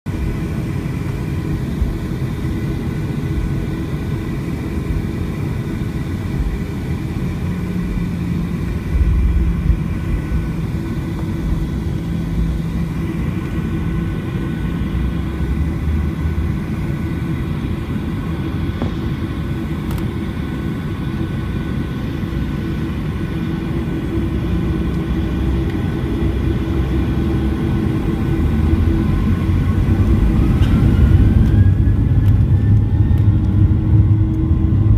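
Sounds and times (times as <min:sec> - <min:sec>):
jet engines running: 0:00.1 - 0:34.9.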